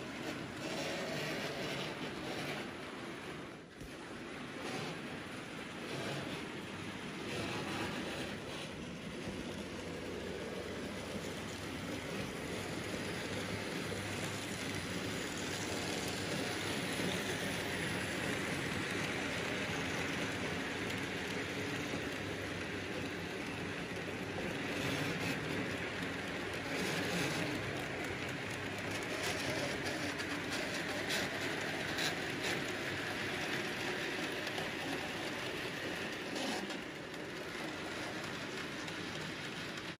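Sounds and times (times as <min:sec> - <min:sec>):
model train wheels rattling on track: 0:00.0 - 0:40.0
wheels clicking over rail joints: 0:00.0 - 0:40.0.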